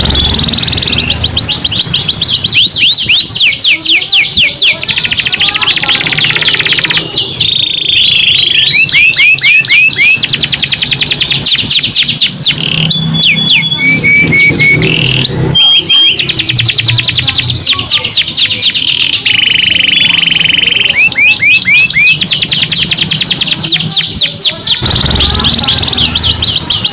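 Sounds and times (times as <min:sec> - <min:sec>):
canaries singing trills: 0:00.0 - 0:26.9.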